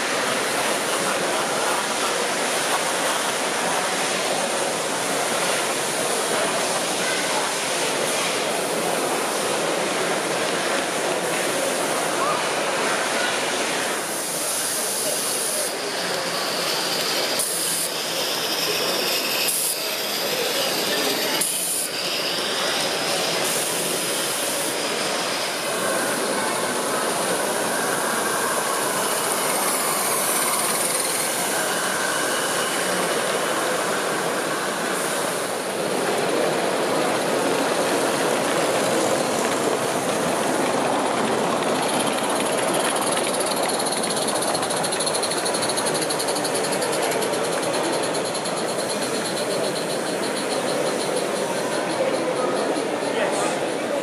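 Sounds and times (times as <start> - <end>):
model train wheels on rail: 0.0 - 54.0
steam hissing: 0.0 - 54.0.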